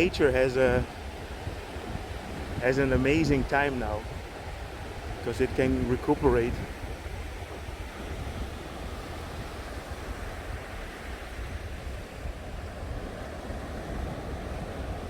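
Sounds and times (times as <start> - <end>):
sea surf washing onto beach: 0.0 - 15.0
wind rumbling on microphone: 0.0 - 15.0.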